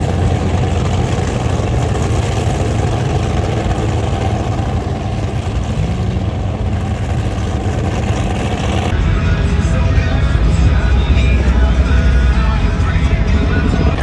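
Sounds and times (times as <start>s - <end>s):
large engine idling: 0.0s - 14.0s.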